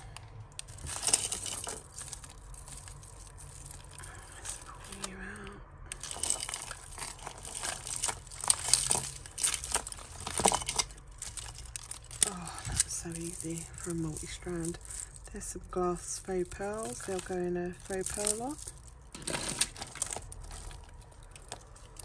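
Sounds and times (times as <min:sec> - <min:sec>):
jewellery clicking and rattling: 0:00.0 - 0:22.0
plastic packaging crinkling: 0:00.0 - 0:22.0.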